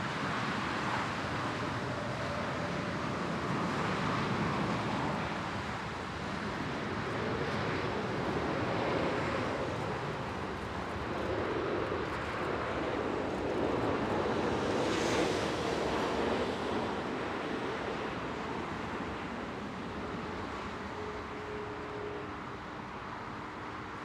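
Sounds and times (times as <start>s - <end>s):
jet aircraft rumble: 0.0s - 24.0s.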